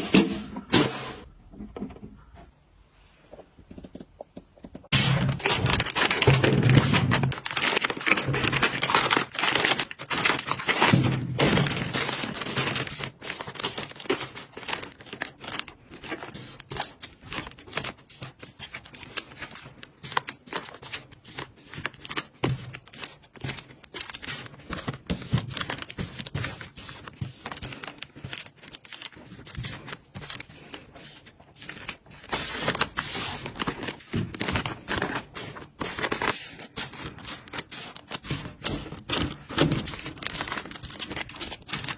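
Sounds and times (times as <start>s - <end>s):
plastic packaging crinkling: 4.9s - 41.9s.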